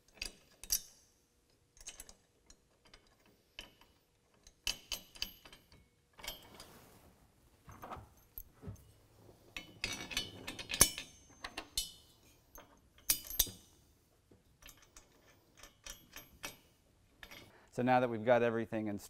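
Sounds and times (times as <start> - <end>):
metal bolts clinking: 0.0 - 6.7, 7.7 - 17.6.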